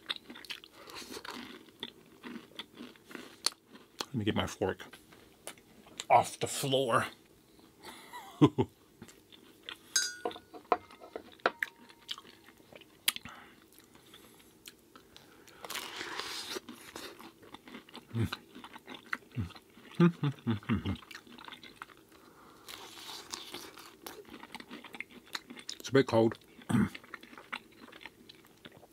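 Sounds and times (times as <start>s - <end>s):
man chewing and crunching food: 0.0s - 6.2s, 8.8s - 28.9s.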